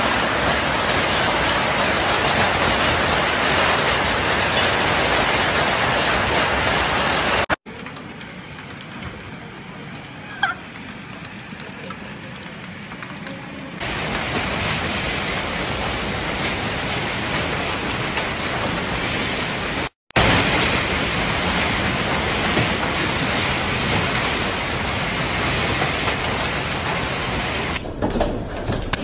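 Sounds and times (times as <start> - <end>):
hail and rain pelting down: 0.0 - 9.4, 11.2 - 27.9.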